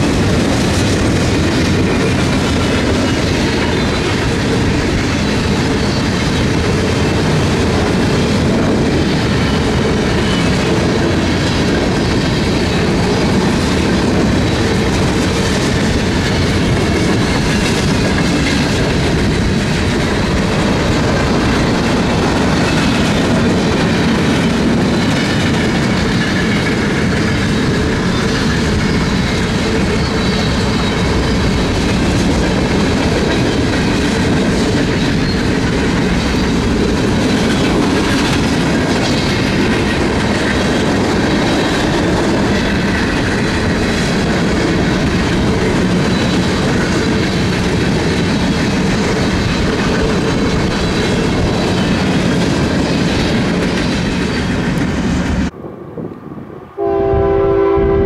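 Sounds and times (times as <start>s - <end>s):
train wheels clacking on rails: 0.0s - 55.6s.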